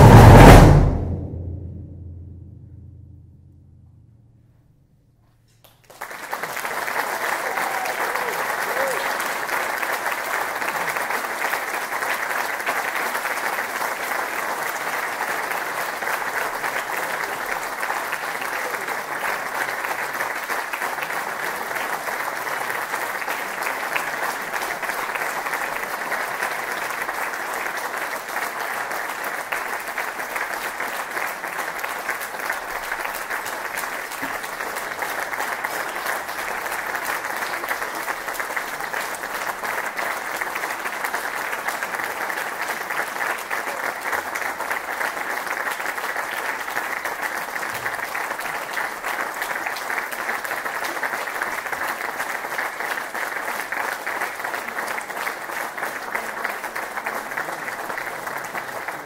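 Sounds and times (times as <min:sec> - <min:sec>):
audience applauding: 0:05.6 - 0:59.0.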